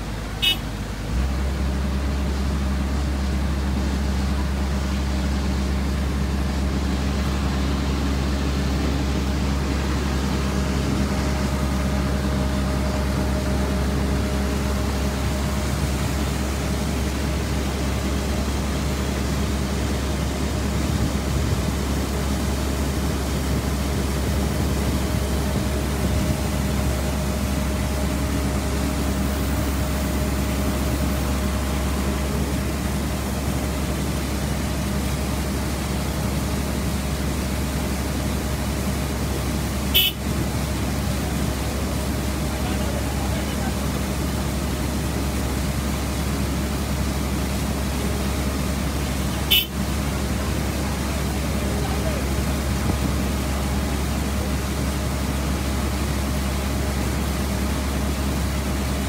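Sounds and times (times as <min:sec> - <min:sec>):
motor low rumble: 0:00.0 - 0:59.0.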